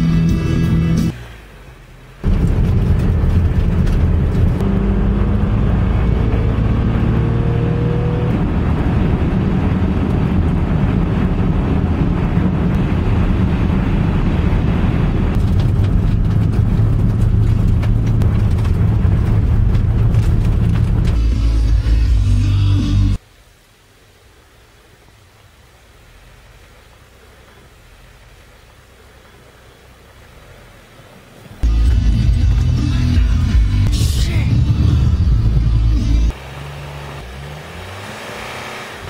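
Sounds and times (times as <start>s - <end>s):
tyre road noise: 0.0s - 23.2s, 24.0s - 39.0s
car engine hum: 0.0s - 39.0s.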